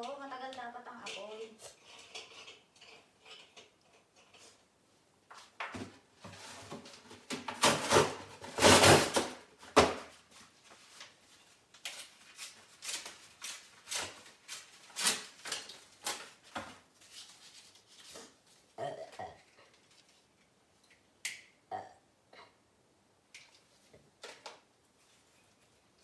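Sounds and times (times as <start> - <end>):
rustling and scraping: 0.9 - 20.6, 23.5 - 26.0.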